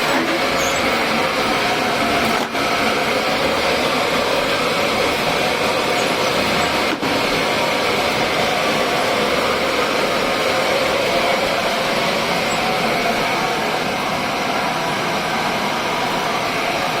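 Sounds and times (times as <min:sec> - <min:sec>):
old machine running: 0:00.0 - 0:17.0.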